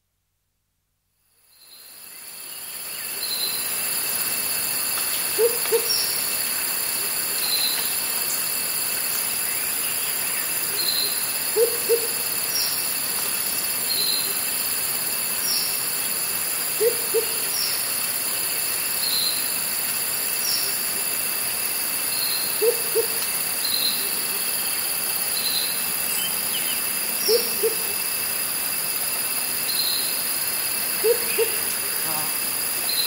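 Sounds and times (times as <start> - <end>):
cicadas chorus: 1.3 - 33.0.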